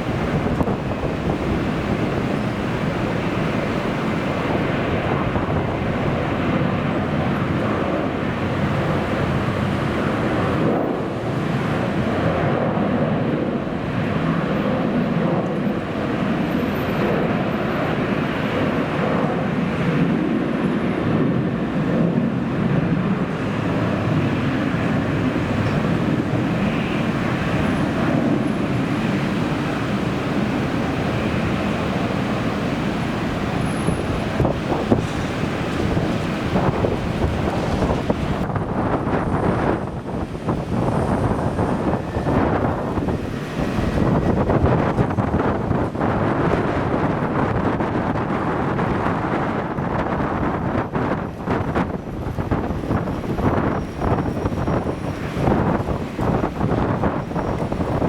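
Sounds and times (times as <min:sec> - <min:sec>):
jet engines rushing: 0:00.0 - 0:58.0
wind buffeting microphone: 0:00.0 - 0:58.0.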